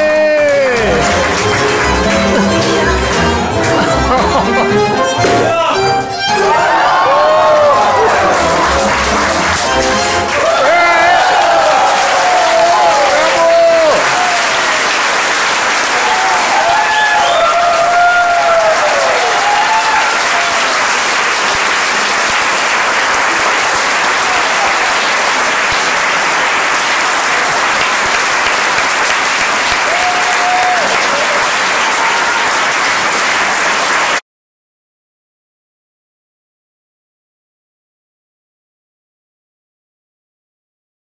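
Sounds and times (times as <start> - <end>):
people cheering: 0.0 - 4.7, 5.3 - 34.2
audience applauding: 0.0 - 5.1, 6.3 - 34.2.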